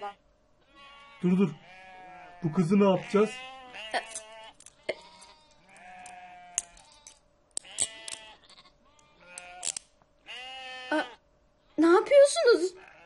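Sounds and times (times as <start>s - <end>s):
sheep bleating: 0.0s - 12.0s, 12.7s - 13.0s.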